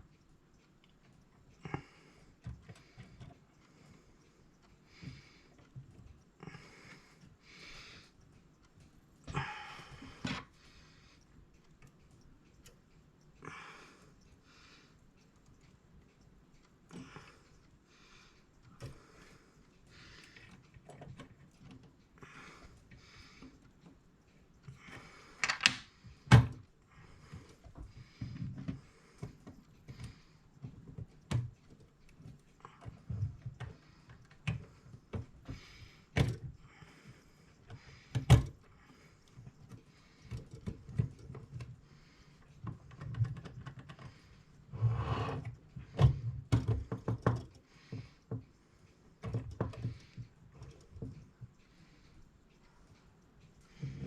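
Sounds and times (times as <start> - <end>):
clock parts clicking and tapping: 0.0 - 44.8, 45.4 - 54.0.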